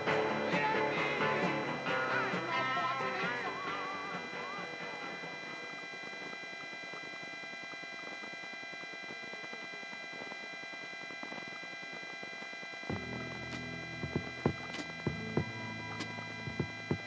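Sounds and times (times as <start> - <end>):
high whining tones: 0.0 - 17.0.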